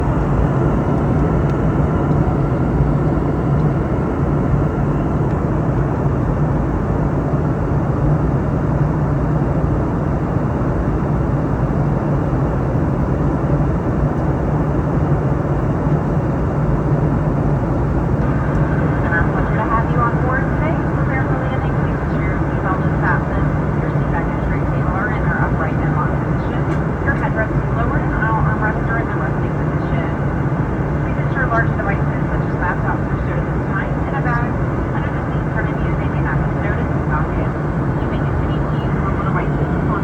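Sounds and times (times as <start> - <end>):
aircraft cabin drone: 0.0 - 40.0.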